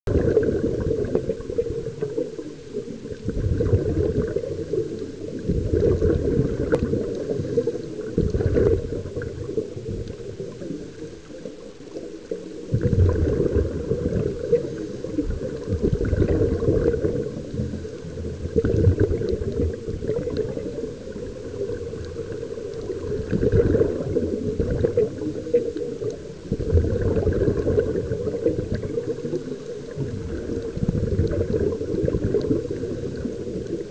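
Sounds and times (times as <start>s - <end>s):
underwater exhaled air bubbling: 0.1s - 33.9s.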